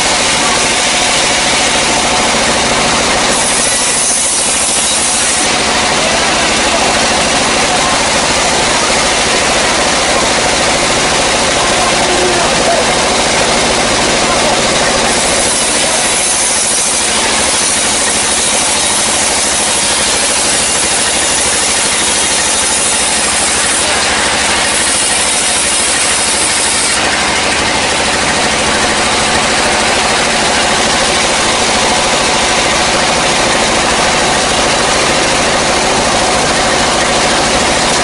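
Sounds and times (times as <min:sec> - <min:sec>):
band saw cutting through log: 0:00.0 - 0:38.0
mill motor running: 0:00.0 - 0:38.0.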